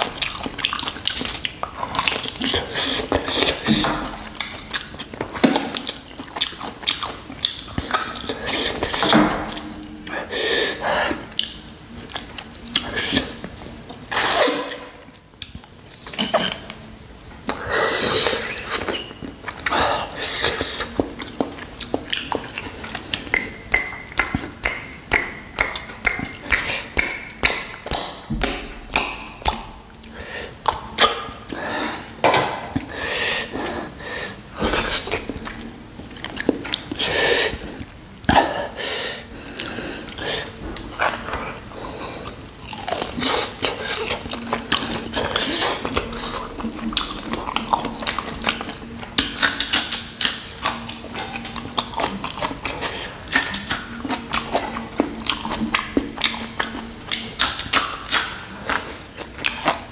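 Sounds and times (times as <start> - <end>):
man chewing with smacking sounds: 0.0 - 59.9.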